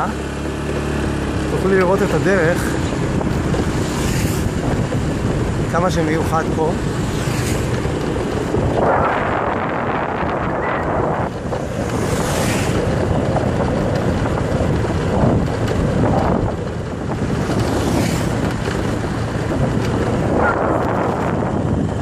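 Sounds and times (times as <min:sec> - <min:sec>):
scooter engine rumble: 0:00.0 - 0:22.0
wind buffeting microphone: 0:00.3 - 0:22.0.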